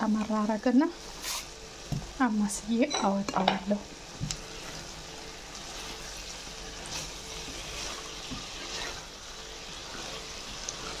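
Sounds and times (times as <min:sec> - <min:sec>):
greens and meat sizzling in a pan: 0:00.0 - 0:11.0.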